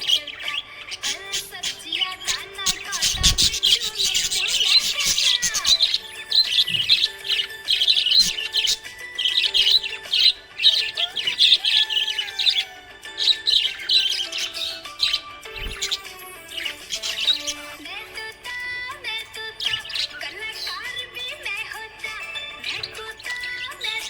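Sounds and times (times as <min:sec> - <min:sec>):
music with long held tones: 0:00.0 - 0:24.0
parrots chirping: 0:00.0 - 0:24.0.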